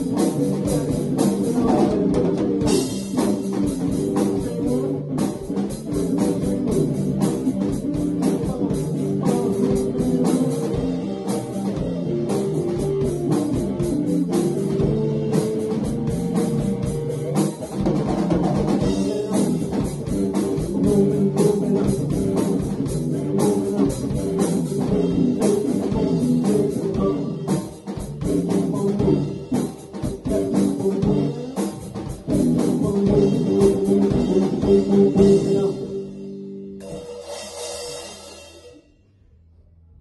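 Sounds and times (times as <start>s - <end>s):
rock band playing: 0.0s - 38.8s.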